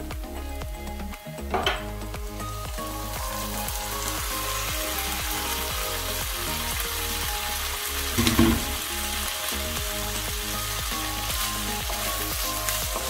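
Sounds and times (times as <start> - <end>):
livers sizzling in a frying pan: 1.5 - 13.0.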